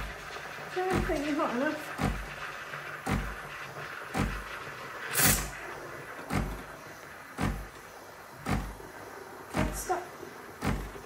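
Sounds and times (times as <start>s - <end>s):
steam wand frothing milk: 0.0s - 11.0s.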